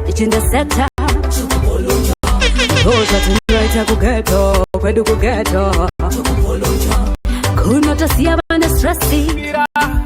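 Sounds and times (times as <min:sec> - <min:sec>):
dancehall music with heavy bass: 0:00.1 - 0:10.0
man singing: 0:01.0 - 0:10.0.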